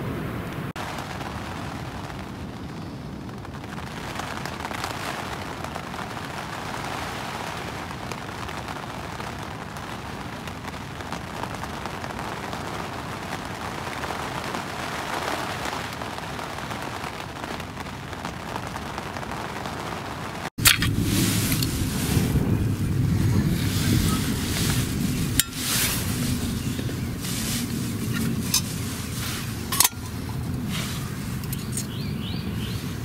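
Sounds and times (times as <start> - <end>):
rain pattering on tent: 0.0 - 33.0.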